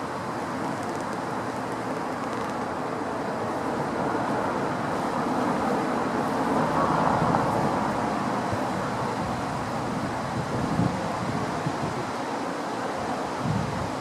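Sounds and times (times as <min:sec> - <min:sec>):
train rumbling past: 0:00.0 - 0:12.2.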